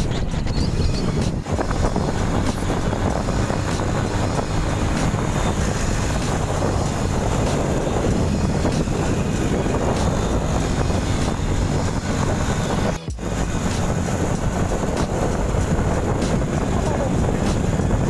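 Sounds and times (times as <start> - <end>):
motorcycle engine running: 0.0 - 18.0
wind on microphone: 0.0 - 18.0.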